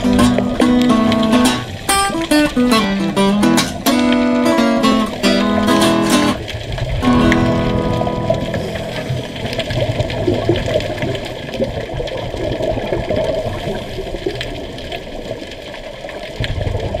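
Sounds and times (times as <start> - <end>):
underwater air bubbles gurgling: 0.0 - 17.0.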